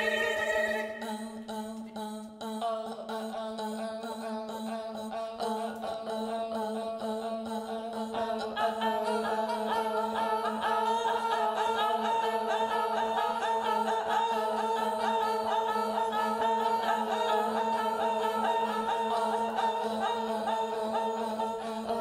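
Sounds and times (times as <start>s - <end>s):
unaccompanied choir singing: 0.0s - 22.0s.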